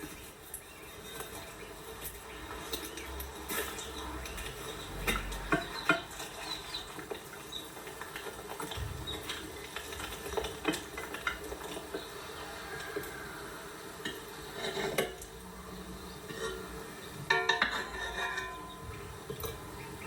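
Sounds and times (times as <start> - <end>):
utensils clinking against pots: 0.0 - 20.0.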